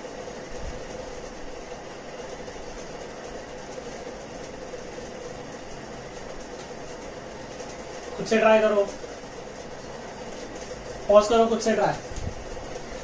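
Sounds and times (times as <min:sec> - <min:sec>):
indoor hum and hiss: 0:00.0 - 0:13.0.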